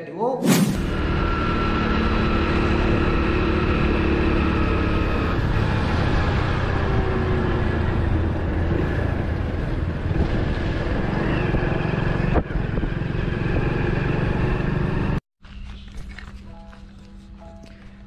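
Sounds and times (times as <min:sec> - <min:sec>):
wind and road noise: 0:00.5 - 0:16.4
motorcycle engine: 0:00.7 - 0:15.2.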